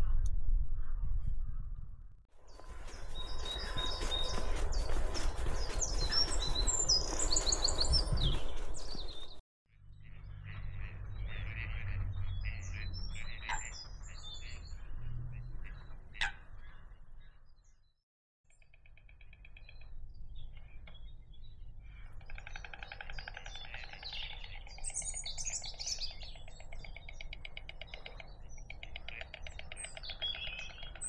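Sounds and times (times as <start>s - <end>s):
songbirds chirping and trilling: 0.0s - 17.9s, 18.5s - 31.0s.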